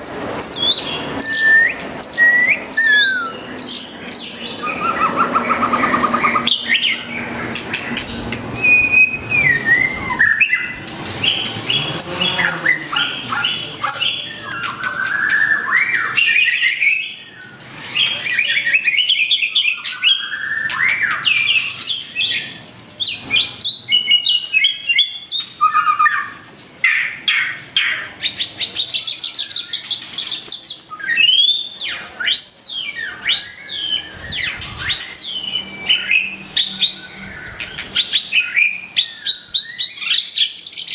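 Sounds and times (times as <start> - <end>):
songbird whistling and trilling: 0.0 - 7.4, 8.6 - 11.8, 12.7 - 28.0, 28.6 - 40.9.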